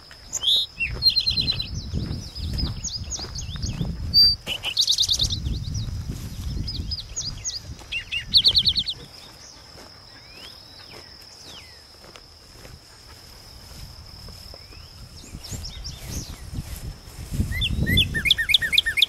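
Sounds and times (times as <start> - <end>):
footsteps on gravel: 0.0 - 8.1, 8.9 - 17.8
insect buzz: 0.0 - 19.0
songbirds chirping and trilling: 0.0 - 19.0.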